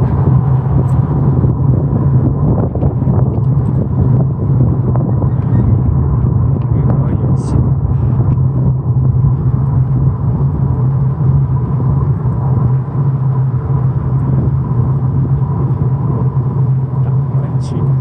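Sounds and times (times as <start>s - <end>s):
small vehicle rumbling on asphalt: 0.0s - 18.0s.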